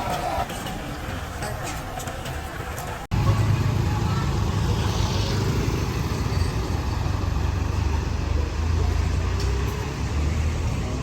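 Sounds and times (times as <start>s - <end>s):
road noise: 0.0s - 11.0s
rumble of passing vehicles: 0.0s - 11.0s.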